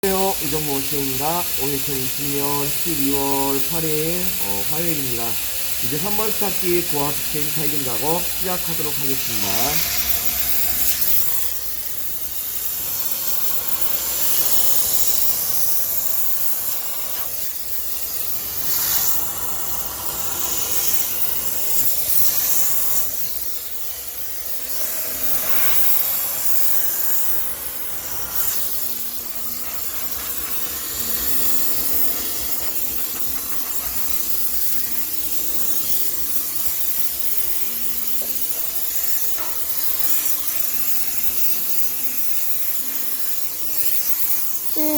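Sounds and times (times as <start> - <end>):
steam jet hissing: 0.0 - 44.9.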